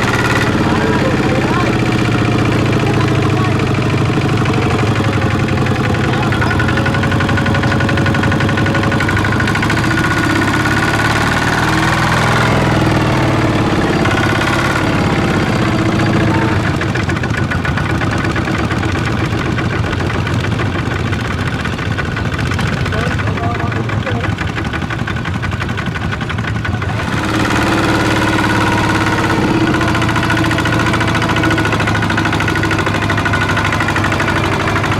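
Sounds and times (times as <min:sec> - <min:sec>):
farm machine engine knocking: 0:00.0 - 0:34.9.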